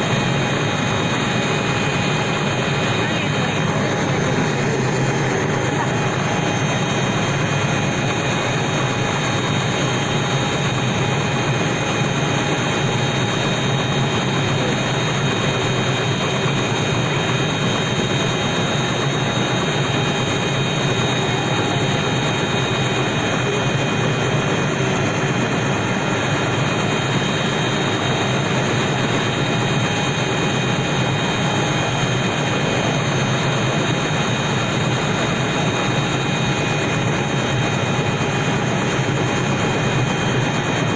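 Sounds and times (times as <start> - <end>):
helicopter engine and rotor: 0.0 - 40.9
high turbine whine: 0.0 - 40.9.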